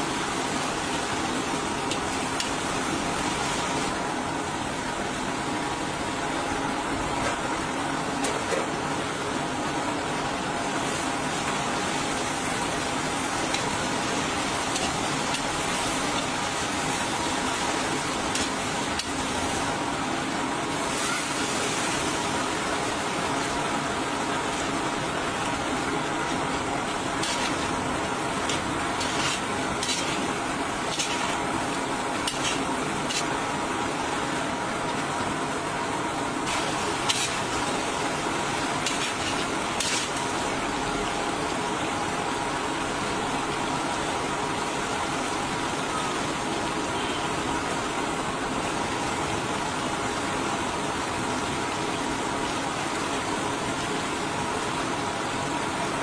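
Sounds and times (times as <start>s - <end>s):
food sizzling and bubbling in pan: 0.0s - 50.8s.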